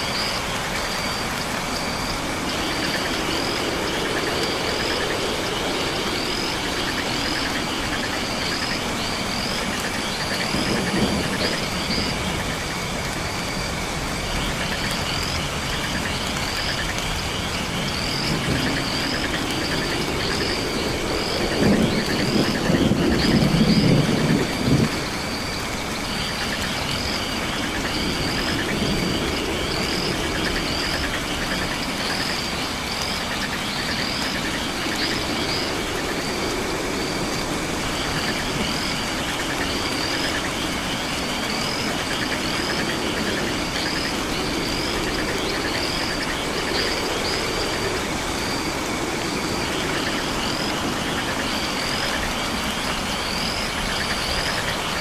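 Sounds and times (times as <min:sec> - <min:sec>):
frogs croaking: 0:00.0 - 0:55.0
insects pulsing trill: 0:00.0 - 0:55.0
steady hiss: 0:00.0 - 0:55.0.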